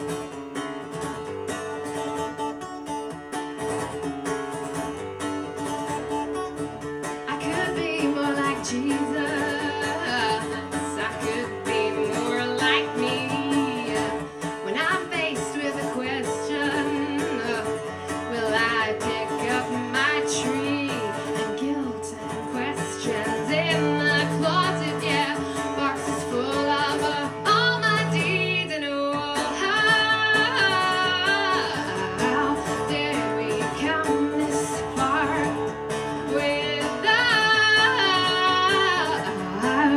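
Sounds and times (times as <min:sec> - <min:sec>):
acoustic guitar chords: 0:00.0 - 0:39.9
woman singing: 0:07.2 - 0:39.9.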